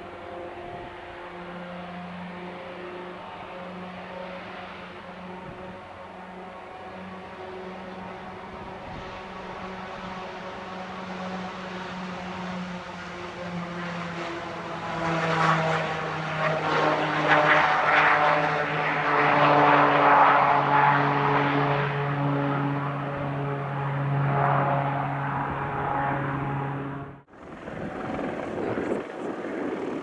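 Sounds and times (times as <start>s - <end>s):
turboprop propeller hum: 0.0s - 30.0s.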